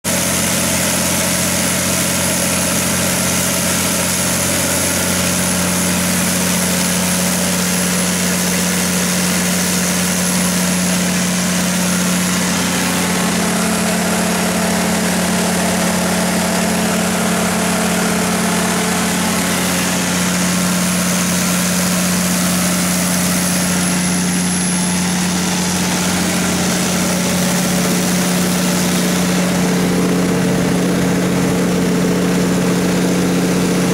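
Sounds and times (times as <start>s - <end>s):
diesel generator engine running: 0.0s - 33.9s.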